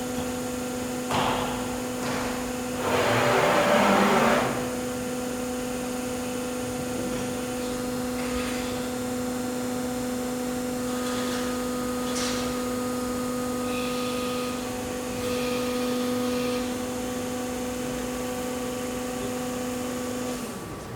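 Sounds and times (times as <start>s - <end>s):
hydraulic pump and motor humming: 0.0s - 20.9s.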